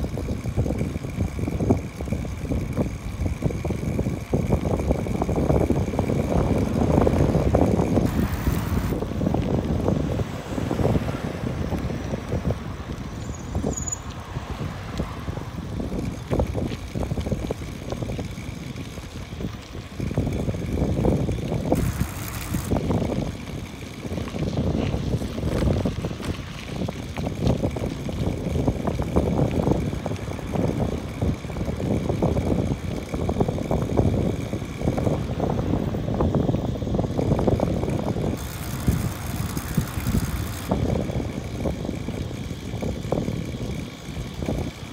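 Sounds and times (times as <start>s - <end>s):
road rumble from moving bike: 0.0s - 44.9s
wind buffeting microphone: 0.0s - 44.9s.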